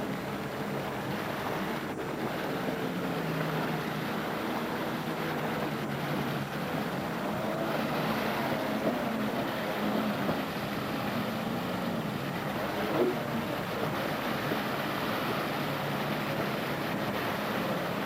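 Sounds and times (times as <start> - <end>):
jet ski engine running: 0.0 - 18.0
rushing water: 0.0 - 18.0
wind noise: 0.0 - 18.0.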